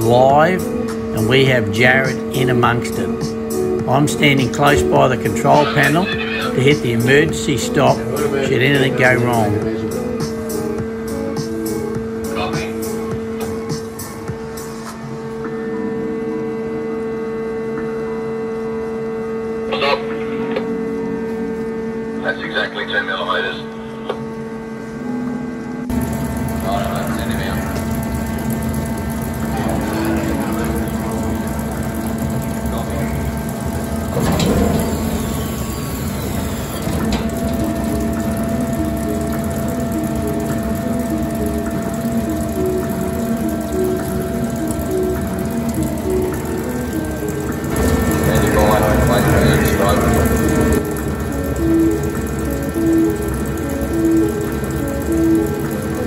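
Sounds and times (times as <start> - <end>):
electrical machine hum: 0.0 - 56.0.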